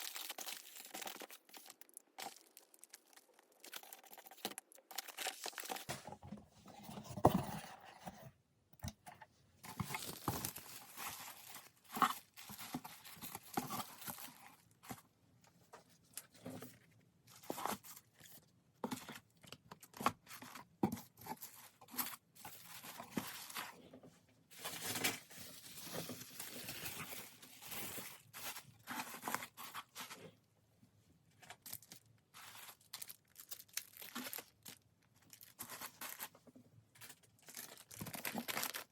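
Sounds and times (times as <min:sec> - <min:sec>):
plastic and paper crinkling: 0:00.0 - 0:08.1, 0:09.6 - 0:30.4, 0:31.4 - 0:38.9.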